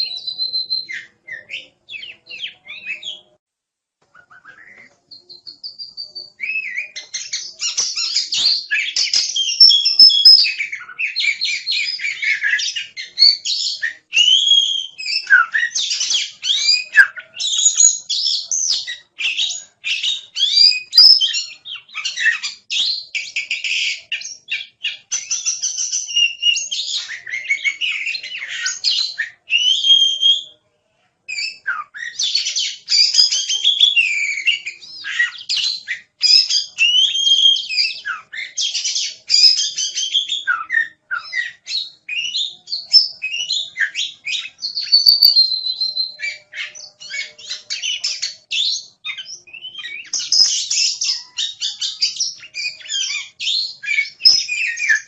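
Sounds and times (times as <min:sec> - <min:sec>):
bird singing whistles and trills: 0:00.0 - 0:03.4, 0:04.1 - 0:30.6, 0:31.3 - 0:55.0.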